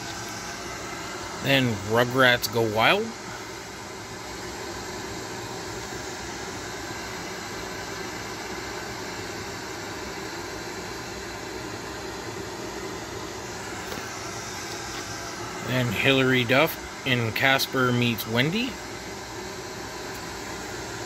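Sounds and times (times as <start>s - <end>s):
air moving from room appliance: 0.0s - 21.0s.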